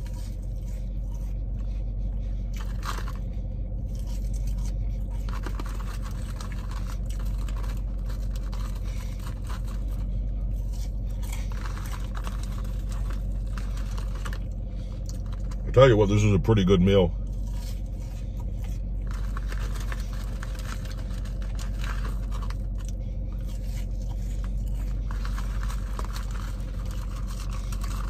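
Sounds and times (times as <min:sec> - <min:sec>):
person chewing crunchy food: 0:00.0 - 0:15.6, 0:17.2 - 0:28.0
steady low hum: 0:00.0 - 0:28.0.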